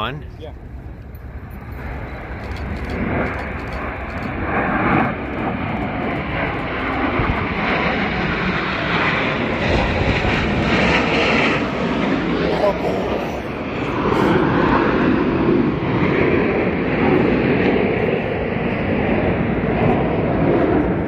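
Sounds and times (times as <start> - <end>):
jets passing low overhead: 0.0 - 21.0.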